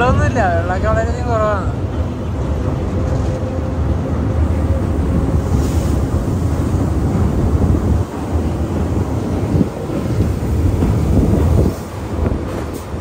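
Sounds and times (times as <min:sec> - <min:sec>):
train wheels rumbling on bridge: 0:00.0 - 0:13.0
wind buffeting microphone: 0:01.8 - 0:13.0.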